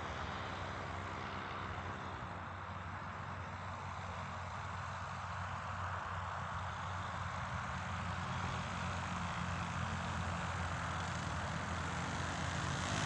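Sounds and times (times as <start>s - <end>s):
paramotor engine and propeller: 0.0s - 13.0s.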